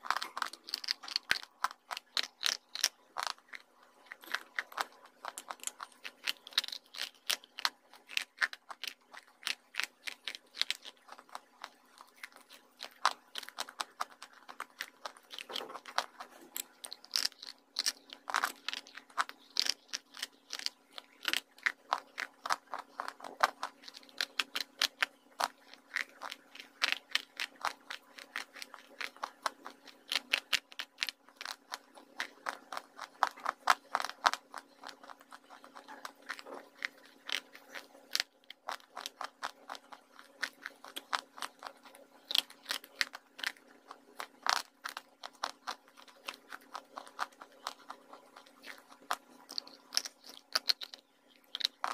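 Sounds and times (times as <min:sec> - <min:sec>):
crisp crunching and chewing: 0:00.0 - 0:51.9
faint steady hum: 0:00.0 - 0:51.9.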